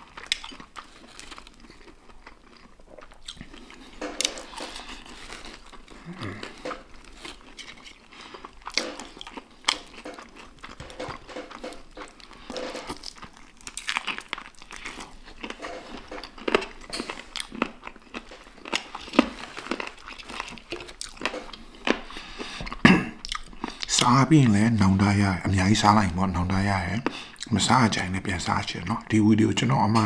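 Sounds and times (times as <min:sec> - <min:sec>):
crispy chicken crunching: 0:00.0 - 0:30.0.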